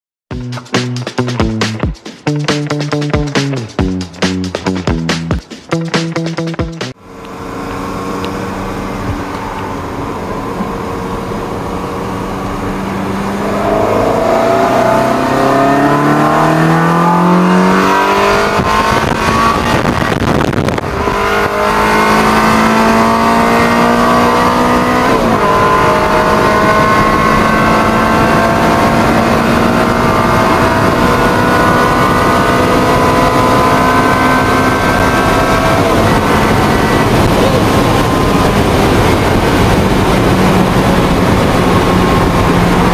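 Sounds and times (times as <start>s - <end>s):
car engine accelerating: 0.6s - 42.9s.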